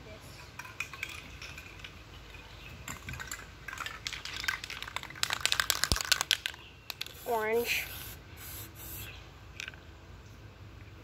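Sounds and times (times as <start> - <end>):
spray can rattling: 0.6 - 9.8.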